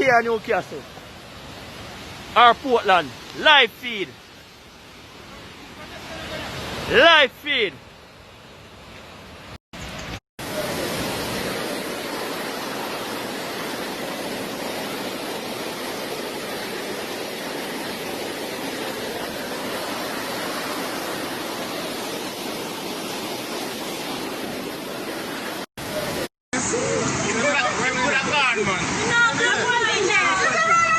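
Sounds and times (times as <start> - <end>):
rush of fast-flowing floodwater: 0.0 - 30.9.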